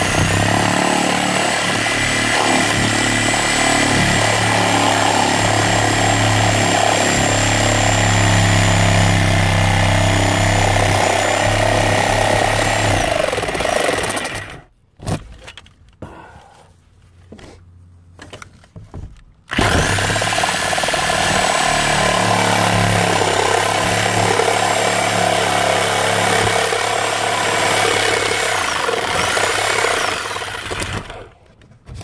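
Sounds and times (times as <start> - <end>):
power tool cutting into roof: 0.0 - 14.7, 19.5 - 31.4.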